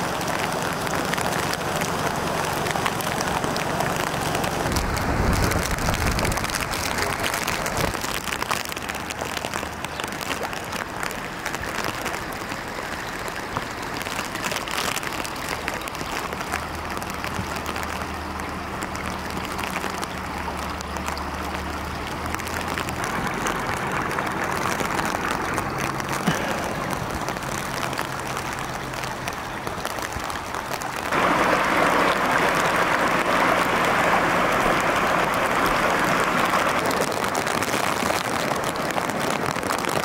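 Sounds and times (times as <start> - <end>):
flood water rushing: 0.0 - 40.0.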